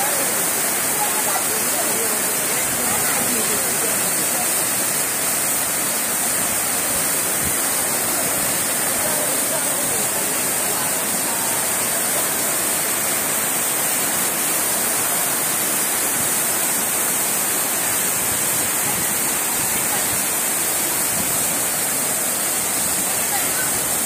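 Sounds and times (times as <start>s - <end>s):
heavy rain: 0.0s - 24.0s
water pouring off concrete edge: 0.0s - 24.0s.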